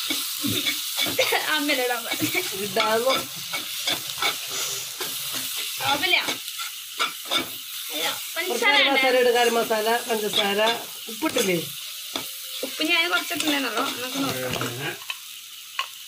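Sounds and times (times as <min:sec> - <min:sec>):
spoon scraping in a pan: 0:00.0 - 0:07.7, 0:08.5 - 0:15.2
sizzling oil: 0:00.0 - 0:16.0.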